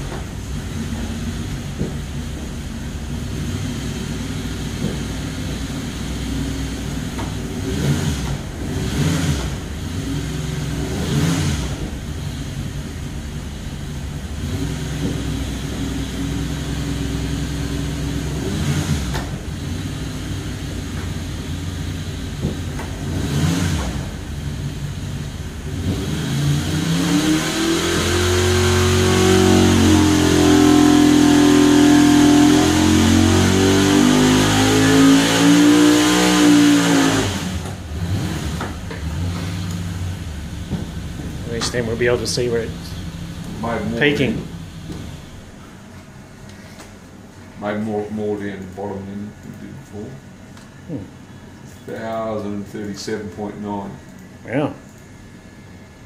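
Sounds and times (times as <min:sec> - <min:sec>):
engine revving at full throttle: 0:00.0 - 0:45.2
engine running on a dyno: 0:00.0 - 0:56.0.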